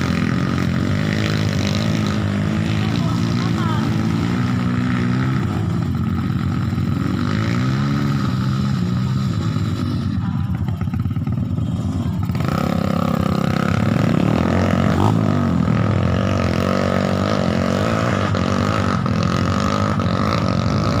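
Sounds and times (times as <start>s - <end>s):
motorcycle engine revving hard: 0.0s - 21.0s.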